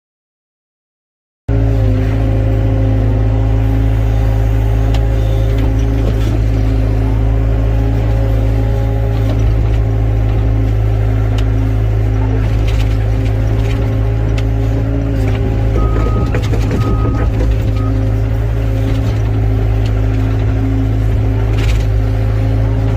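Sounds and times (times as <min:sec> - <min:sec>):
diesel engine humming: 0:01.5 - 0:22.9.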